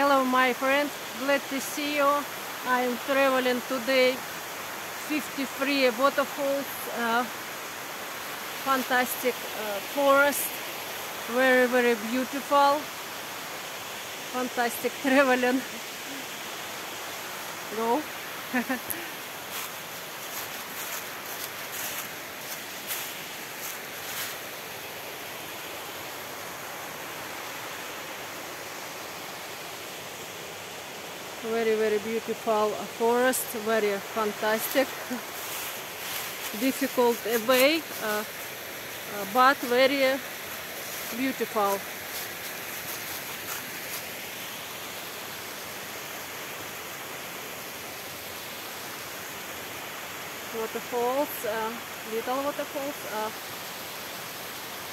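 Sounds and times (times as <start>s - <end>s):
stream cascading over rocks: 0.0s - 54.9s
water rushing down small waterfalls: 0.0s - 54.9s.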